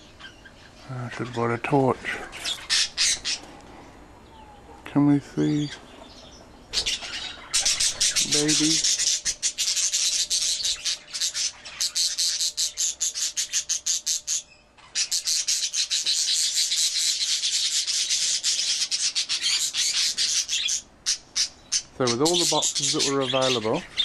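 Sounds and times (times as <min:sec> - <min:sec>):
chicks raspy begging calls: 0:00.0 - 0:24.0.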